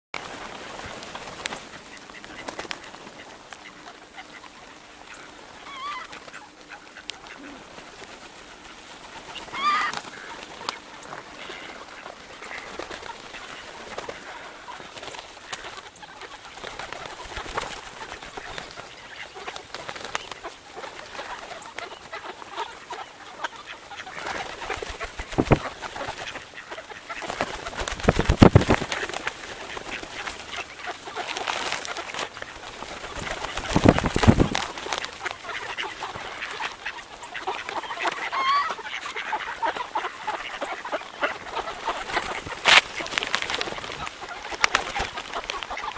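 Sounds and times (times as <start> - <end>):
flock of birds calling: 0.2 - 45.9.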